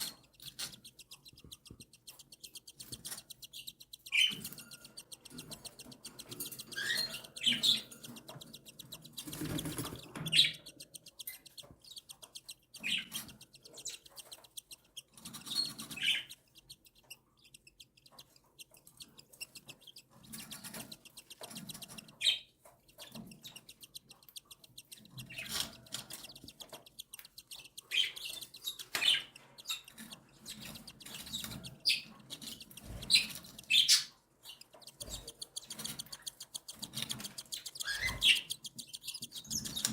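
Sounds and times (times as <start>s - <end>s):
chicks squeaky chirping: 0.0s - 39.9s.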